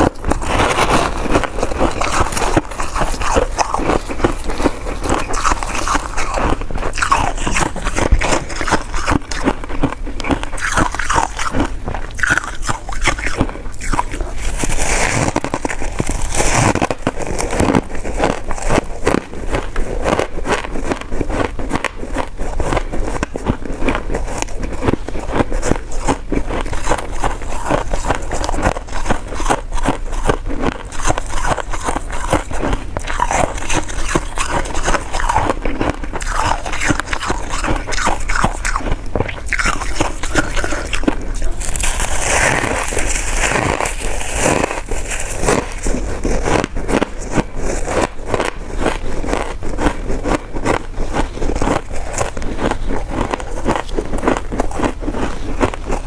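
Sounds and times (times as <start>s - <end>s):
close chewing and biting: 0.0s - 56.0s.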